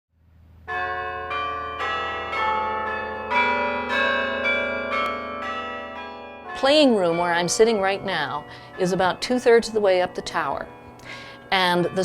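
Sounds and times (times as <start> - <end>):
carillon bells playing a melody: 0.7 - 12.0.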